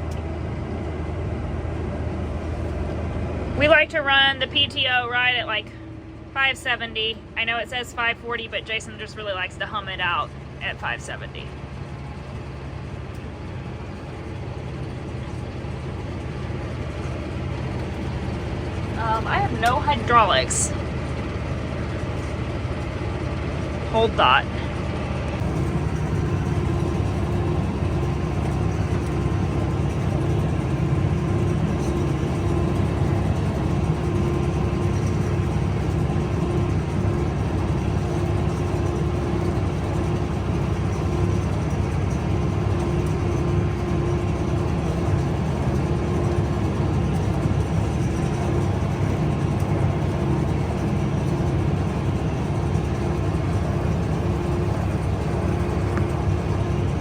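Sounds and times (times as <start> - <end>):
square baler running: 0.0 - 57.0
tractor running under load: 0.0 - 57.0.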